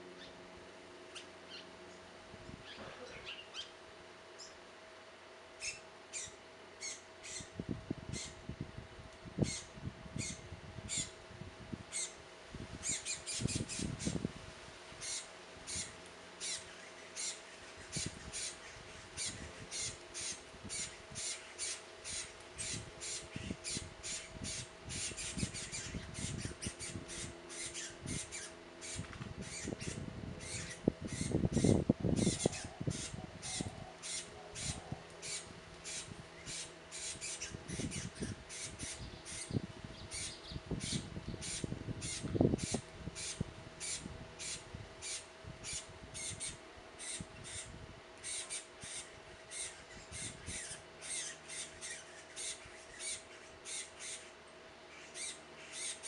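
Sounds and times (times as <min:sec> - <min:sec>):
young bird begging calls: 0:05.6 - 0:07.5, 0:08.1 - 0:08.4, 0:09.4 - 0:11.2, 0:11.9 - 0:12.2, 0:12.8 - 0:14.2, 0:15.0 - 0:56.0.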